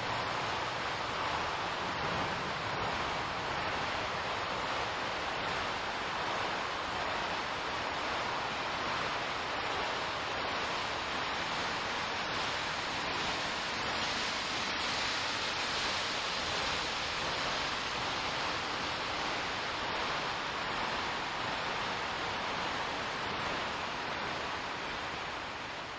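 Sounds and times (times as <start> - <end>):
processed wind and rain rushing: 0.0 - 25.9.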